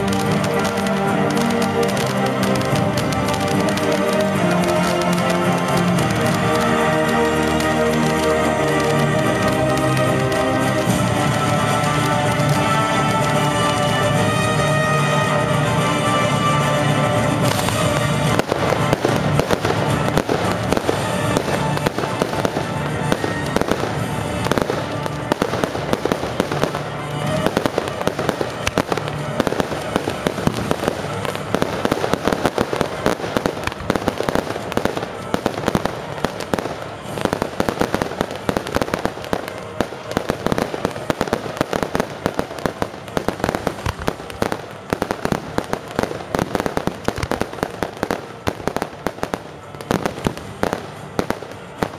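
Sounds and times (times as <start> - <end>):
fireworks bangs and crackles: 0.0 - 51.9
music: 0.0 - 51.9.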